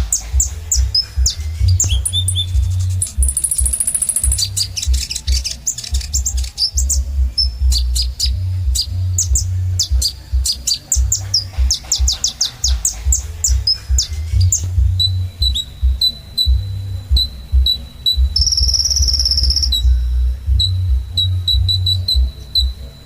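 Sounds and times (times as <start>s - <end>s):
pulsing low rumble: 0.0s - 23.0s
sunbird trilling and chirping: 0.0s - 23.0s.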